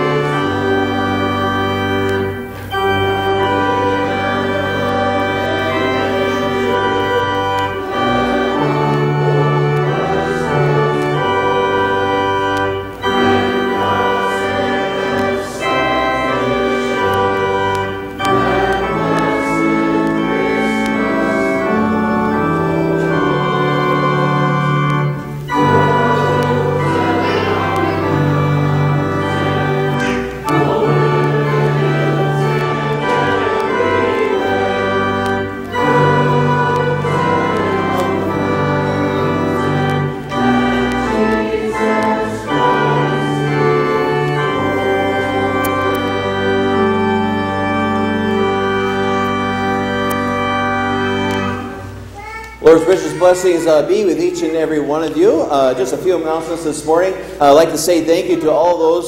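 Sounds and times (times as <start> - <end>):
church organ playing chords: 0.0 - 59.0.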